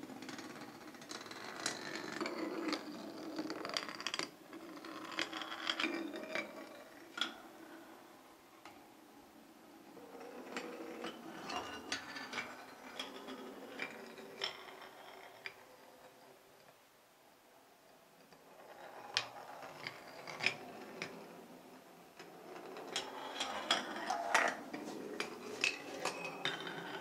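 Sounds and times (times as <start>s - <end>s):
marble clicking over track joints: 0.0s - 8.8s, 9.9s - 16.8s, 18.2s - 21.5s, 22.2s - 27.0s
marble rolling on wooden track: 0.0s - 9.0s, 9.6s - 16.8s, 18.2s - 27.0s.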